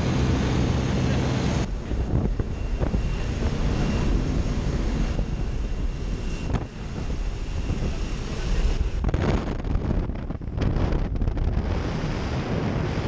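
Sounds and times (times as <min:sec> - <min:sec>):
propeller plane engine drone: 0:00.0 - 0:13.0
rushing wind: 0:00.0 - 0:13.0.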